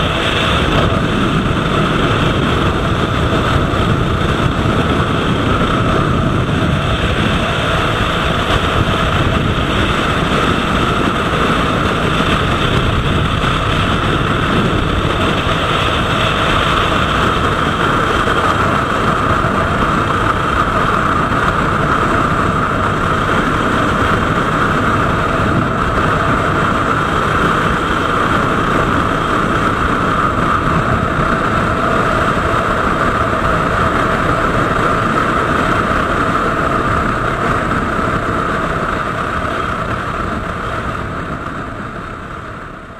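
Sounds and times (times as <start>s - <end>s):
motorcycle engine running: 0.0s - 42.9s
wind on microphone: 0.0s - 42.9s.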